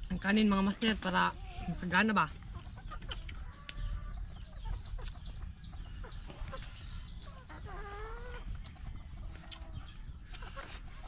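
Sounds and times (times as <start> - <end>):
chickens peeping: 0.2 - 11.0.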